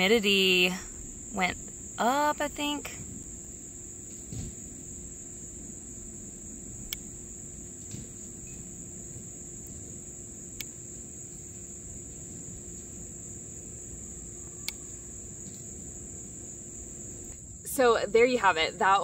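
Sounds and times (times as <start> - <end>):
insects chirring: 0.0 - 19.0
low outdoor hum: 0.0 - 19.0.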